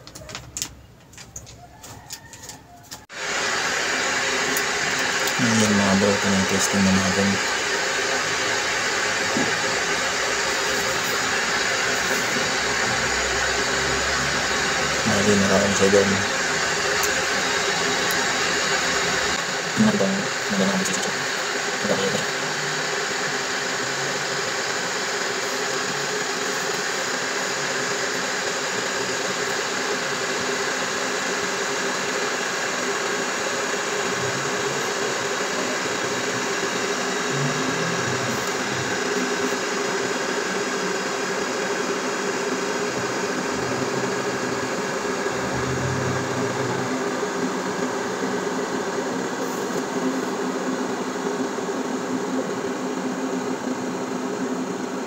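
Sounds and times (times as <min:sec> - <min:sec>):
electric kettle heating water: 0:03.1 - 0:55.0.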